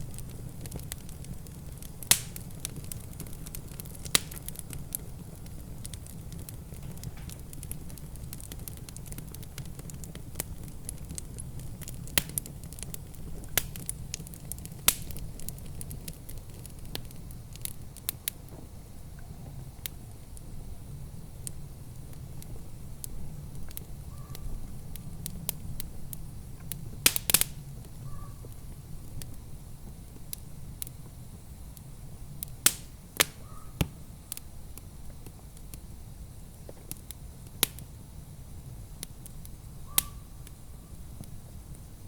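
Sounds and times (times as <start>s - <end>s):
sharp pops of fire: 0.0s - 42.0s
wood fire crackling: 0.0s - 42.0s.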